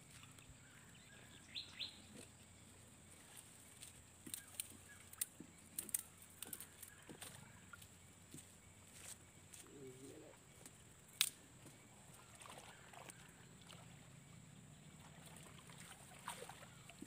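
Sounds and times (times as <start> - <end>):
riverside ambience: 0.0 - 17.0.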